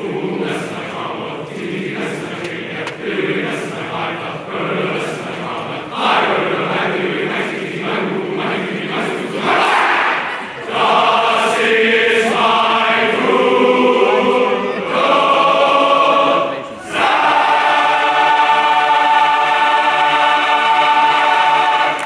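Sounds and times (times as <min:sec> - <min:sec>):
men's choir singing: 0:00.0 - 0:22.0.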